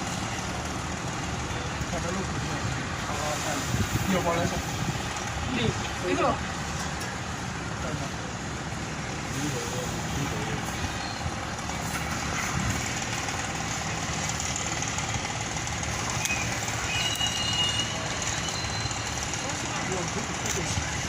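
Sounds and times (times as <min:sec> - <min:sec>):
faint voices: 0:00.0 - 0:21.0
heavy diesel engine running: 0:00.0 - 0:21.0.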